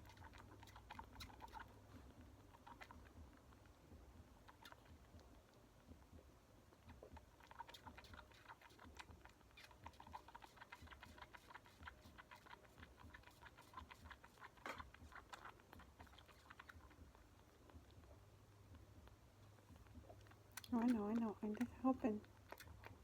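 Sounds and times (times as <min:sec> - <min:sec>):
kitten suckling from bottle: 0:00.0 - 0:23.0.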